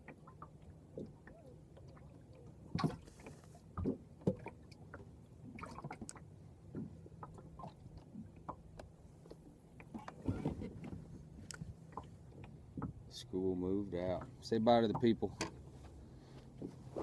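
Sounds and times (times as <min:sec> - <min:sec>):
knocks and clunks on boat: 0:00.0 - 0:13.2, 0:14.0 - 0:17.0.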